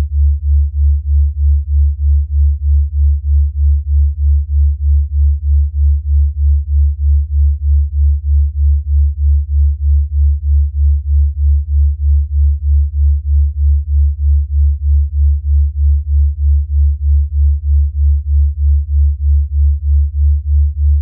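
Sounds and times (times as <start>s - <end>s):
pulsing low sine tone: 0.0s - 21.0s.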